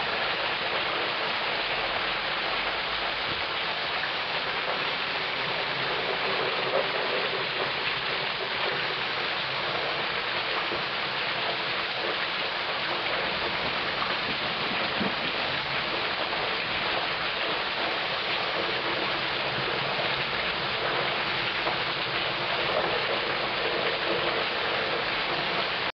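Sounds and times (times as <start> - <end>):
heavy rain on the street: 0.0 - 25.9.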